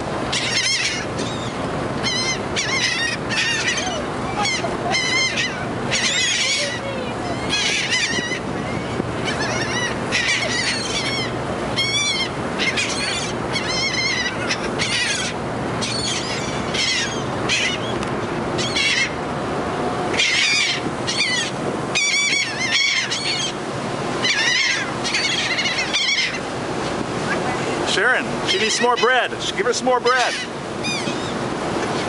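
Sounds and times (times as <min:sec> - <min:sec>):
steady low hum: 0:00.0 - 0:32.0
seagulls calling: 0:00.1 - 0:32.0.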